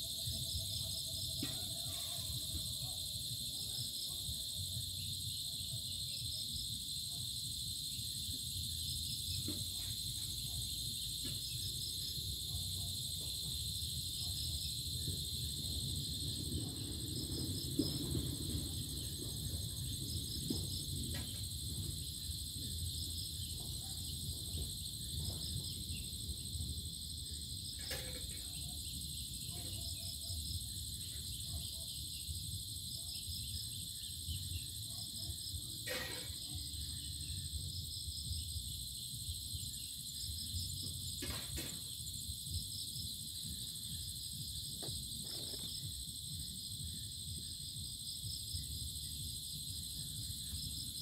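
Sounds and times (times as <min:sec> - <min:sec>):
high insect drone: 0:00.0 - 0:51.0.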